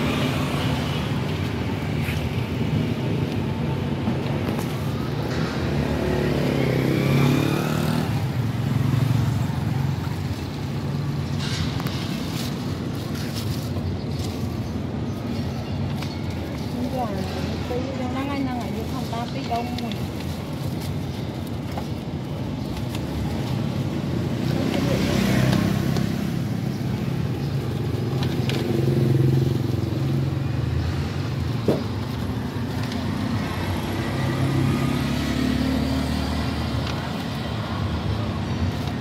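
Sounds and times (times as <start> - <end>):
traffic passing: 0.0 - 39.0.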